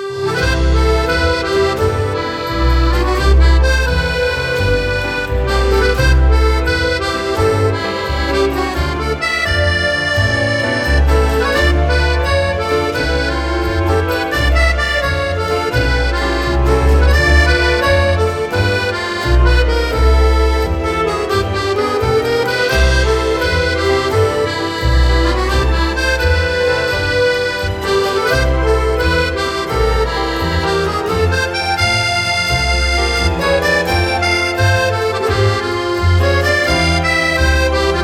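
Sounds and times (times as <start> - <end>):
lively accordion music: 0.0 - 38.0.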